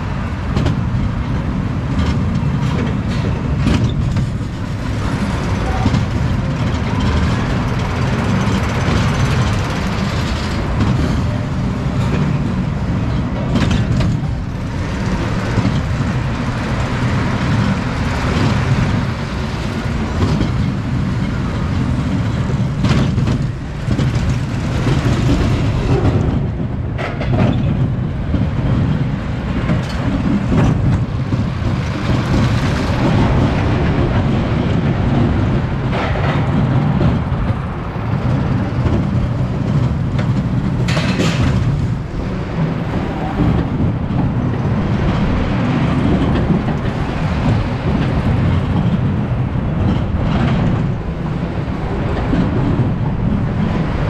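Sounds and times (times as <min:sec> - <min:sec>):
coaster wheels rumbling on steel track: 0:00.0 - 0:54.0.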